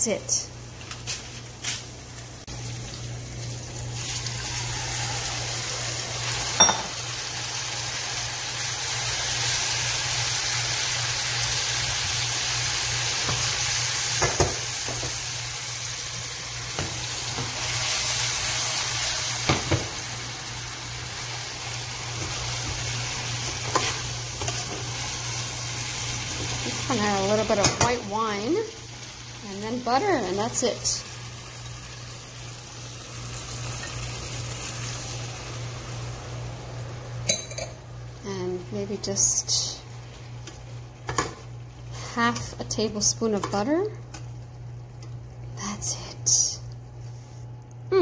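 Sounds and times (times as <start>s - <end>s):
pasta sizzling in a skillet: 0.7s - 47.5s.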